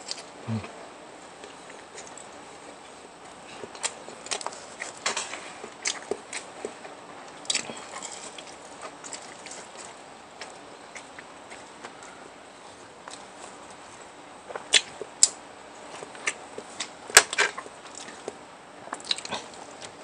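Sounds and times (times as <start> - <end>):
chewing and biting food: 1.4 - 20.0.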